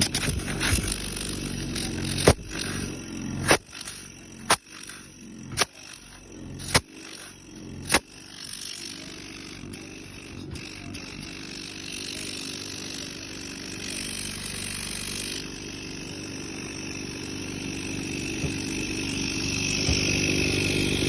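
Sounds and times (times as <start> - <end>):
air compressor humming: 0.0 - 21.0.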